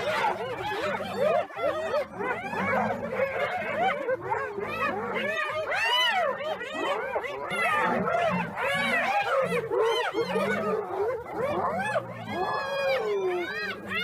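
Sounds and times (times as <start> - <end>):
hyenas yelping and giggling: 0.0 - 14.0.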